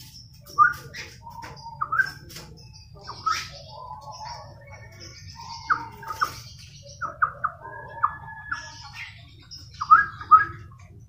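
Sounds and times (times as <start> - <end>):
bird whistled song: 0.0 - 10.8.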